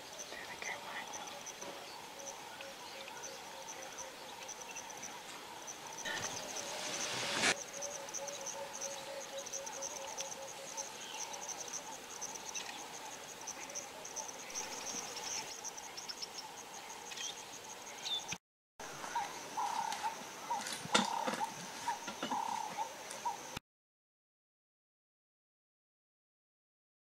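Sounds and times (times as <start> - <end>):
fainter lower insect trill: 0.0 - 23.6
insects trilling: 0.0 - 23.6.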